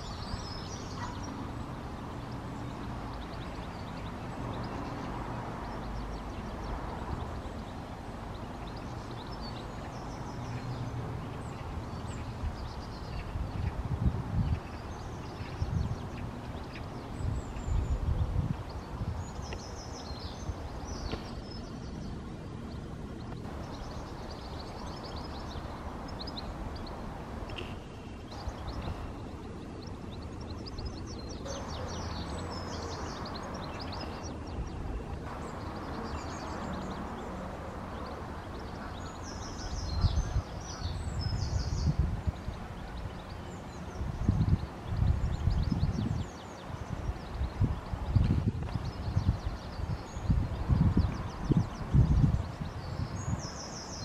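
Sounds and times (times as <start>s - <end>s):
wind buffeting microphone: 0.0s - 27.5s, 28.2s - 54.0s
songbirds chirping and trilling: 0.0s - 54.0s.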